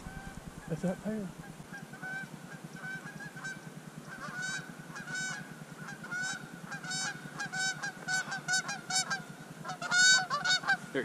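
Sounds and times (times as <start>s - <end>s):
geese honking: 0.0s - 11.0s
steady low rumble: 0.0s - 11.0s.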